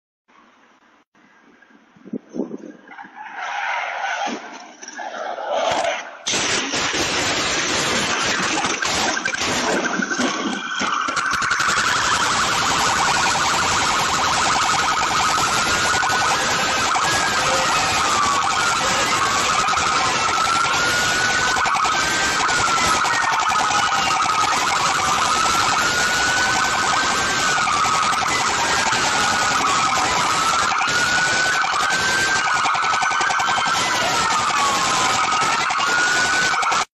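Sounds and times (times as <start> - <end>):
police sirens wailing: 5.0 - 36.9.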